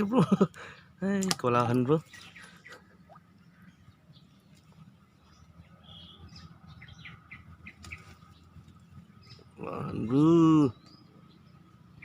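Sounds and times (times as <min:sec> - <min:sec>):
low steady hum: 0:00.0 - 0:11.8
faint bird chirps: 0:01.9 - 0:12.0.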